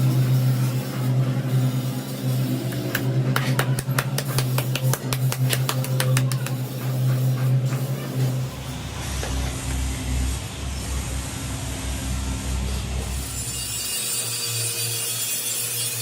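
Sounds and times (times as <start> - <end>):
low machine hum: 0.0 - 13.9.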